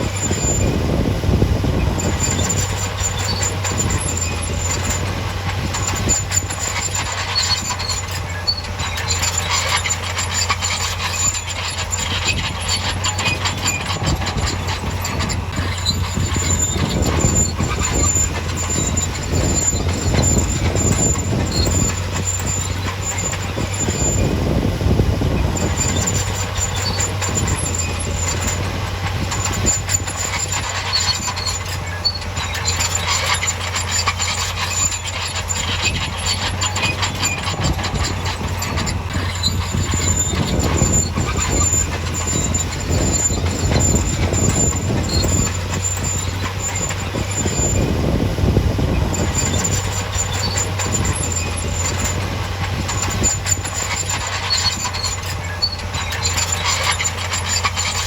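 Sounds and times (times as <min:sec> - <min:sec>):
diesel engine running: 0:00.0 - 0:58.0
thin high squeal: 0:00.0 - 0:58.0
metal clattering: 0:01.6 - 0:24.6, 0:25.3 - 0:58.0.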